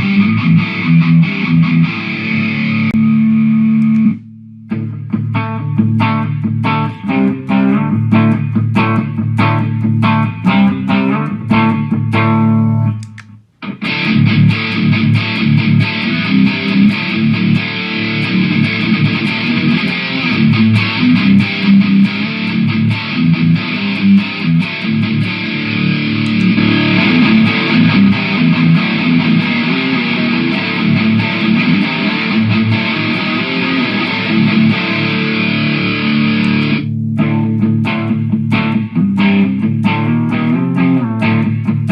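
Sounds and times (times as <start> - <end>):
distorted electric guitar: 0.0 - 41.9.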